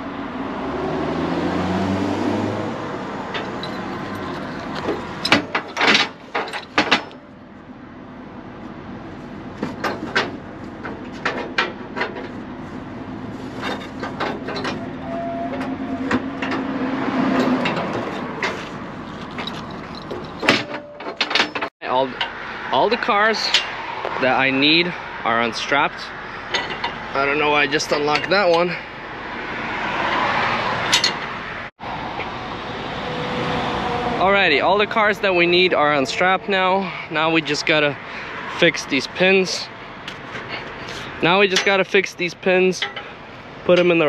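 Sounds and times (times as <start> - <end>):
traffic hum: 0.0 - 44.0.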